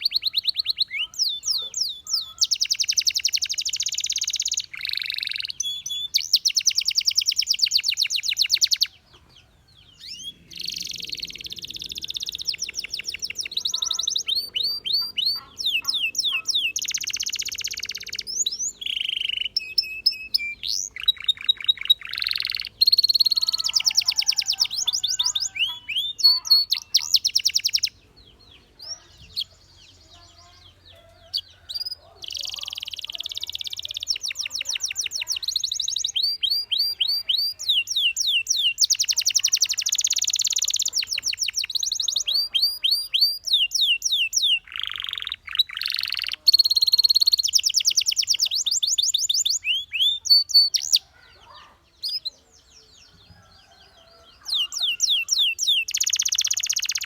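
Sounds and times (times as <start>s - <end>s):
canary singing in fast trills: 0.0s - 57.0s.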